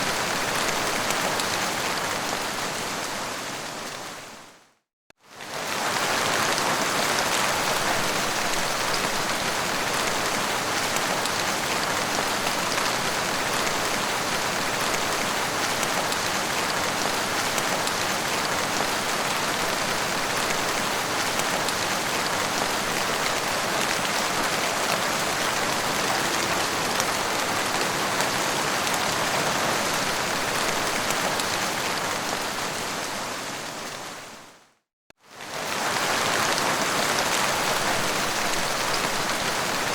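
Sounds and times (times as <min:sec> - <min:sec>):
heavy rain on a hard surface: 0:00.0 - 0:39.9.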